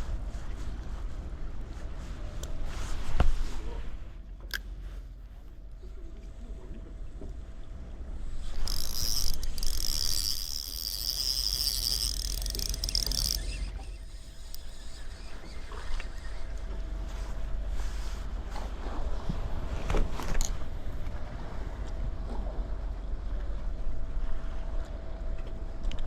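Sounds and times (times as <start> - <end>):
boat engine rumble: 0.0 - 25.9.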